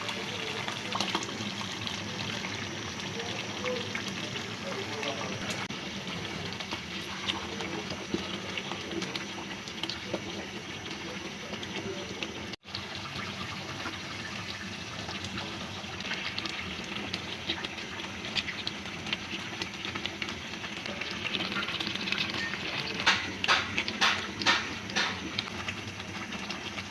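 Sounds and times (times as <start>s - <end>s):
stew bubbling in a pot: 0.0s - 26.9s.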